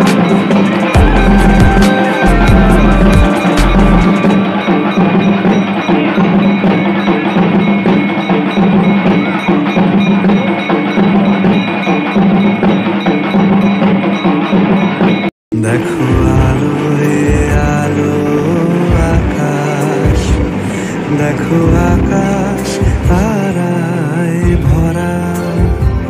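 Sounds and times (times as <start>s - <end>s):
low drone: 0.0s - 11.3s, 15.5s - 25.6s
temple bells clanging: 0.0s - 26.0s.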